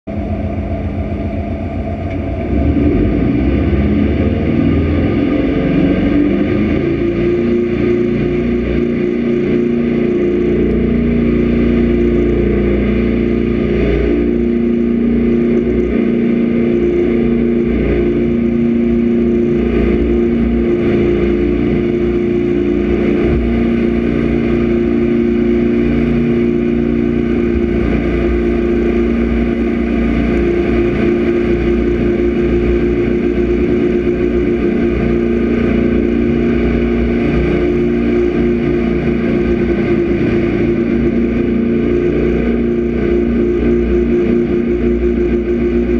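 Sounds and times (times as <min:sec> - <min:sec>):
boat engine throttling up: 0:00.0 - 0:45.9
water rushing: 0:01.4 - 0:45.8.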